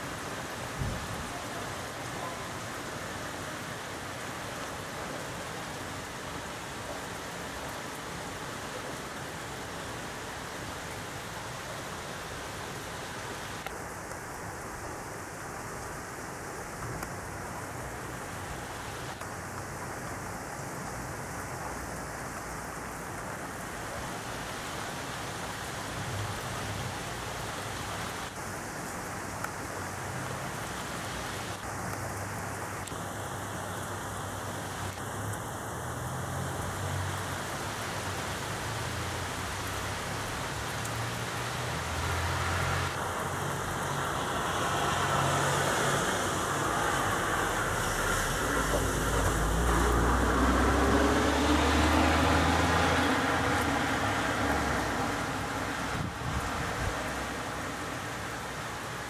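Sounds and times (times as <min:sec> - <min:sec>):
car on wet road: 0:00.0 - 0:14.7, 0:15.6 - 0:59.0
heavy rain on a street: 0:00.0 - 0:59.0
rainwater running along kerb: 0:00.0 - 0:59.0.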